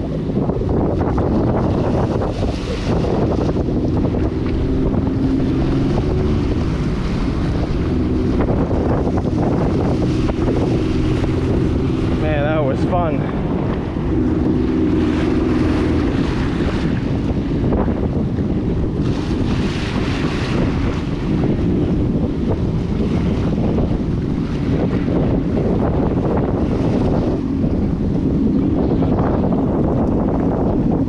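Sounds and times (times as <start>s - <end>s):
jet ski engine drone: 0.0s - 31.0s
rushing water: 0.0s - 31.0s
wind buffeting microphone: 0.0s - 31.0s.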